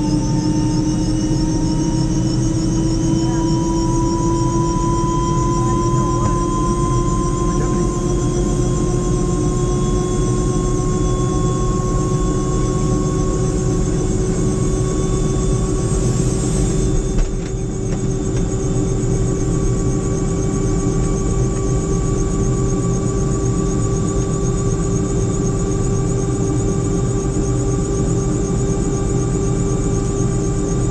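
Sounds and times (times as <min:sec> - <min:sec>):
helicopter engine and rotor: 0:00.0 - 0:30.9.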